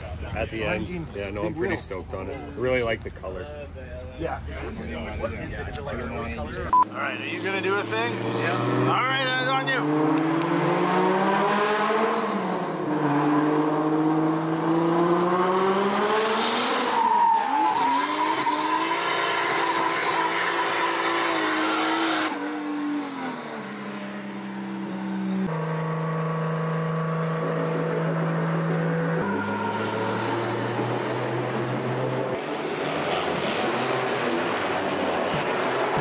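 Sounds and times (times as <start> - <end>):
car engine revving: 7.0 - 36.0.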